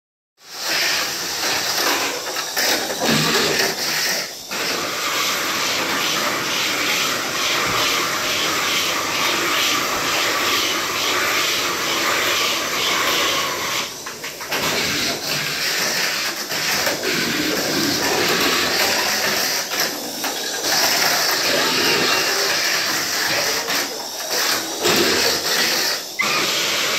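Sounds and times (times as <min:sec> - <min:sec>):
small electric motors whirring: 0:00.6 - 0:26.9.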